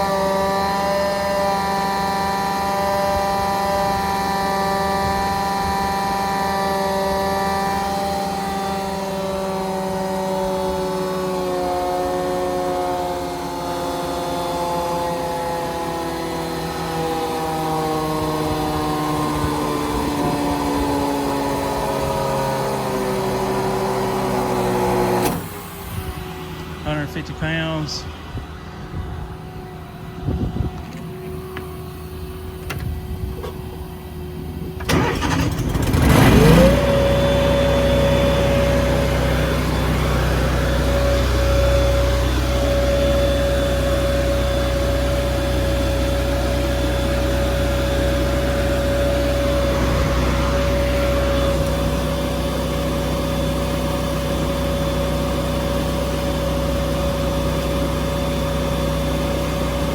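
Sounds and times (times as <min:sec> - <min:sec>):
engine starting and running: 0:00.0 - 0:59.9.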